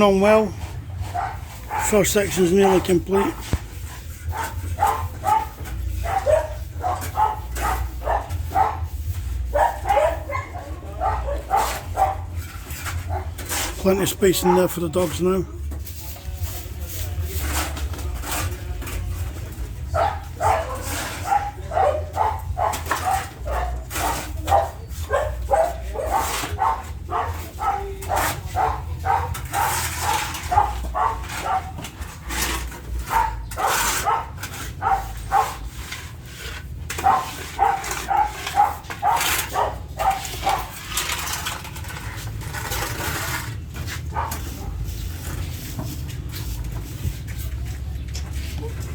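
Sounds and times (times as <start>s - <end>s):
dogs barking: 0.0s - 15.4s, 19.3s - 47.3s.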